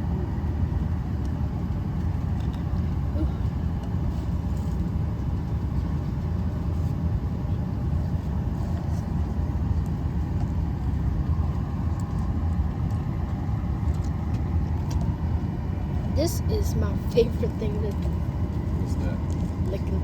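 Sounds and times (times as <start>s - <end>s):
low cabin rumble: 0.0s - 20.0s.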